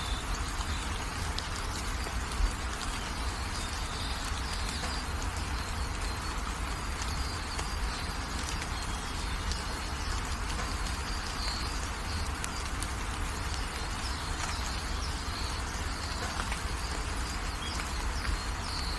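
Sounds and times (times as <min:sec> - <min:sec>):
gentle rain: 0:00.0 - 0:18.9
small birds chirping: 0:00.0 - 0:18.9.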